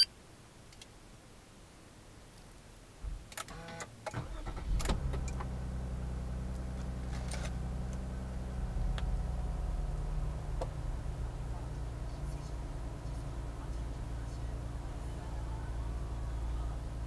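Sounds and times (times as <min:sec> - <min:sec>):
car engine starting and idling: 0:03.0 - 0:17.0.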